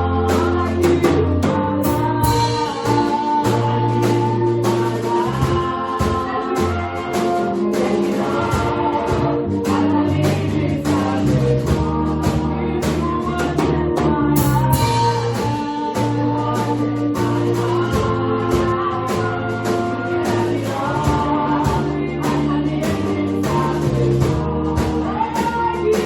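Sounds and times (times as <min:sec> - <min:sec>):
band accompaniment with bass: 0:00.0 - 0:26.0
gospel choir singing: 0:00.0 - 0:26.0.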